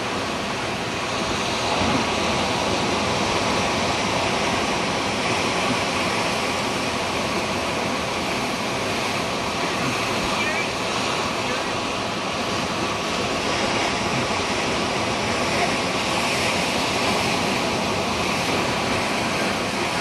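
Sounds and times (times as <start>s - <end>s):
ocean surf rushing: 0.0s - 20.0s
wind: 0.0s - 20.0s.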